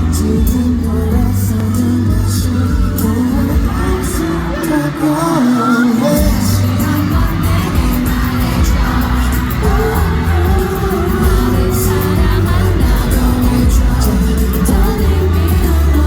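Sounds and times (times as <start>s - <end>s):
live pop song over loudspeakers: 0.0s - 16.0s
person singing: 0.0s - 16.0s.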